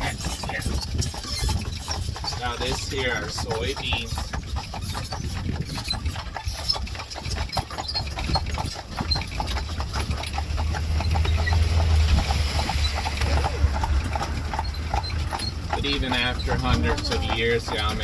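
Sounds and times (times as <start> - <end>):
horse hooves clip-clopping on road: 0.0 - 18.0.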